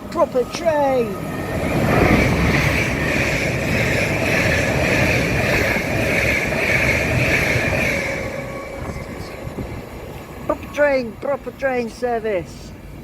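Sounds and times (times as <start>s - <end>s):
high ringing from wheels and rails: 0.0s - 11.6s
train rushing rumble: 0.0s - 13.0s.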